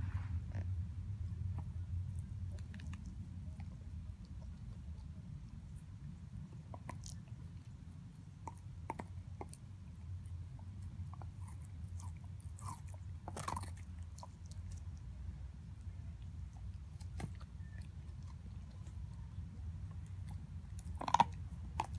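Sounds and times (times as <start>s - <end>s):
steady low hum: 0.0s - 21.9s
dog chewing a bone: 0.5s - 21.9s.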